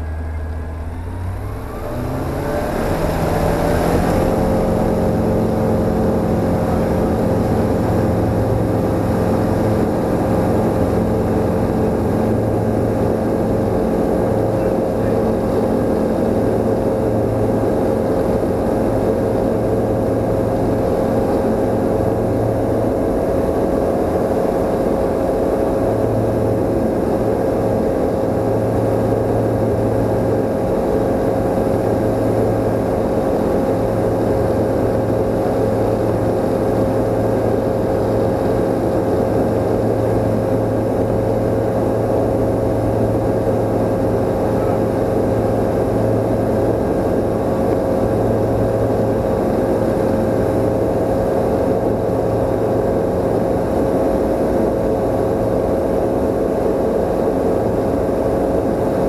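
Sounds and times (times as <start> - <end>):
aircraft engine and propeller hum: 0.0 - 59.0.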